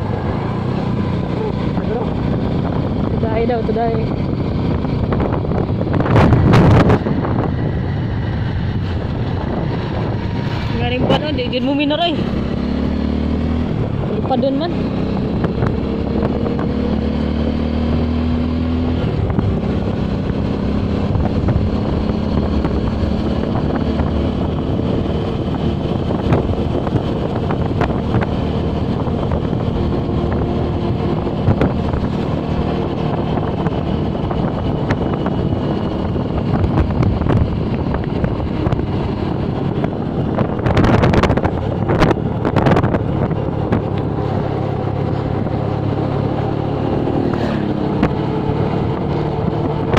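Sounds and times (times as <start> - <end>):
motorcycle engine running: 0.0 - 49.9
wind rushing over microphone: 0.0 - 49.9.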